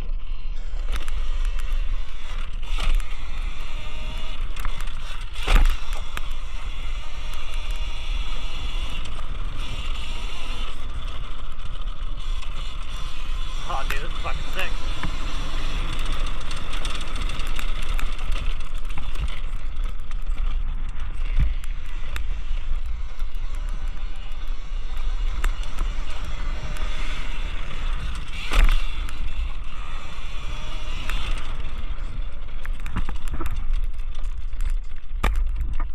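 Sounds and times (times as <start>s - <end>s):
electric motor whine: 0.0s - 35.6s.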